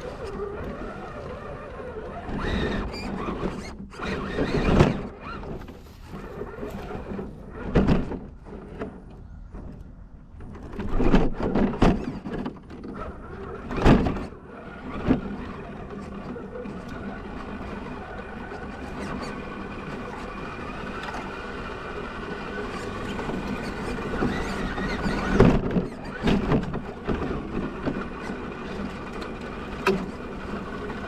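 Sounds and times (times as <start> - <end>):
low drivetrain hum: 0.0 - 31.0.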